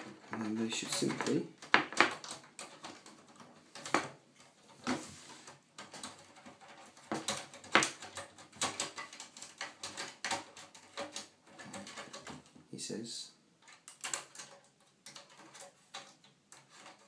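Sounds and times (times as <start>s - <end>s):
plastic panel clicking and scraping: 0.0s - 12.5s, 13.6s - 17.0s.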